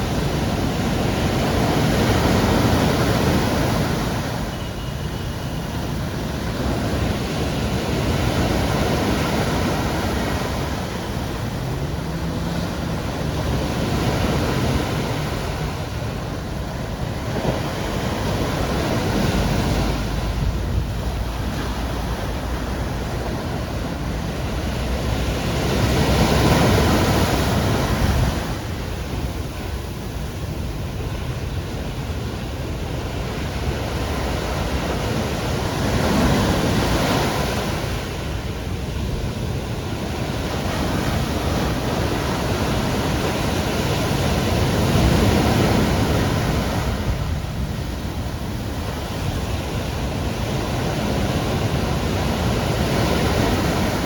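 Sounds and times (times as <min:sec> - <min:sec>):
sea waves breaking on shore: 0:00.0 - 0:54.0
wind rumble on microphone: 0:00.0 - 0:54.0.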